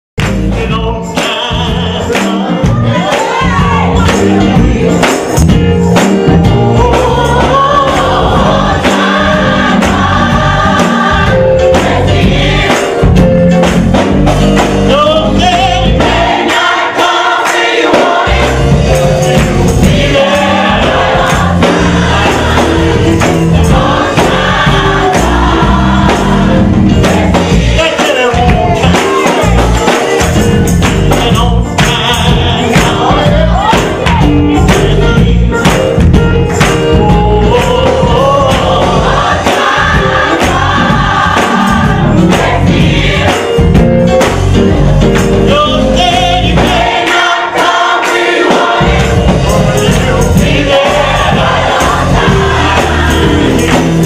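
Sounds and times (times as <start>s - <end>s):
band with strong bass line: 0.2s - 54.0s
choir singing gospel: 0.2s - 54.0s
tambourine keeping the beat: 0.2s - 54.0s.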